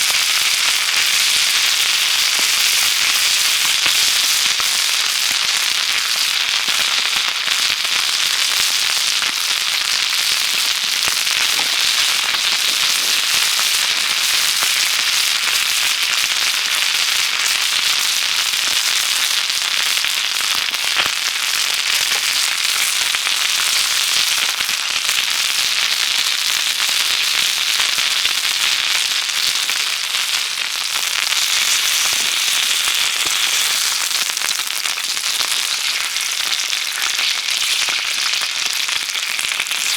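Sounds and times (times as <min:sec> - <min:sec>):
meat crackling over campfire: 0:00.0 - 0:39.9.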